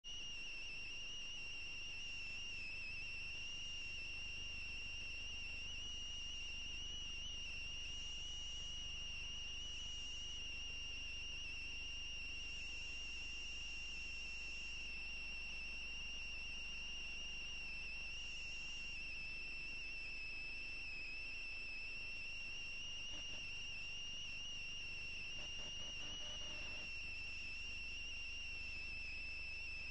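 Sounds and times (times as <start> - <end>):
high-pitched whine: 0.1 - 29.9.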